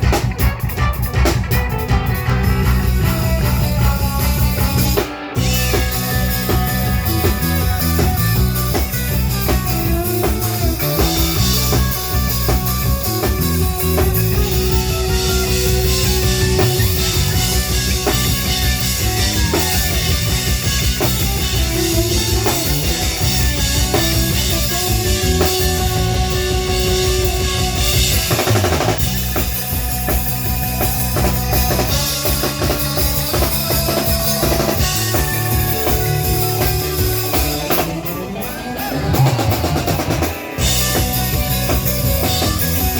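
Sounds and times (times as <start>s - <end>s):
drum kit: 0.0s - 42.9s
live band playing: 0.0s - 42.9s.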